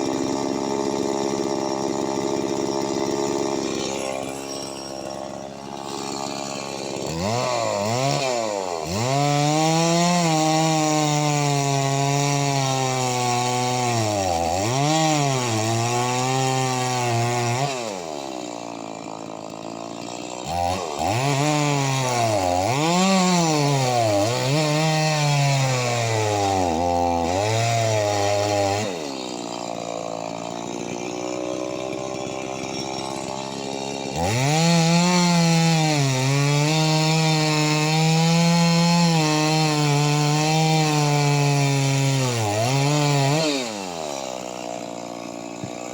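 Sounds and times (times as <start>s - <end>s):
chainsaw cutting log: 0.0s - 45.9s.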